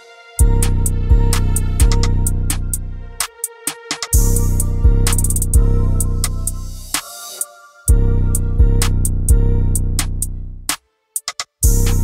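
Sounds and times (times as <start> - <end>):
music with beat and deep bass: 0.0 - 12.0.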